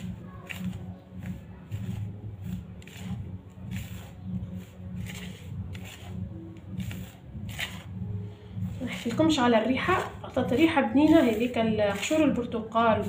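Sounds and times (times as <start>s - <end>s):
hand swishing dry flour in bowl: 0.0s - 13.0s.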